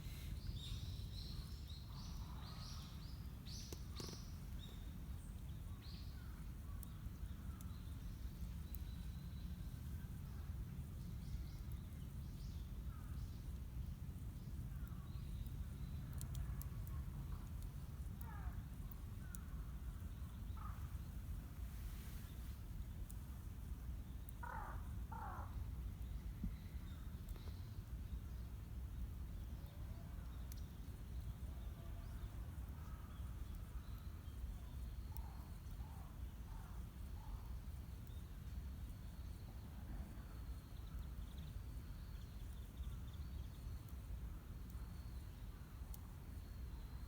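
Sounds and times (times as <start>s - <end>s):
birds calling faintly: 0.0s - 47.0s.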